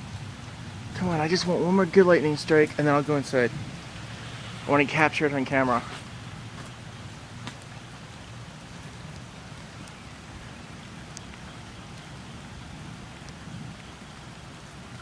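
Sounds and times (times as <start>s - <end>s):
steady rain: 0.0s - 15.0s
sharp rain drop ticks: 0.1s - 15.0s.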